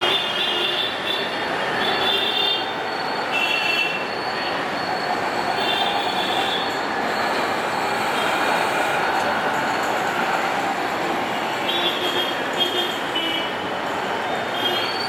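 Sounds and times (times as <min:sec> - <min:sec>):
rumble of rail traffic: 0:00.0 - 0:15.0
train wheels squealing: 0:00.7 - 0:13.2, 0:13.8 - 0:15.0.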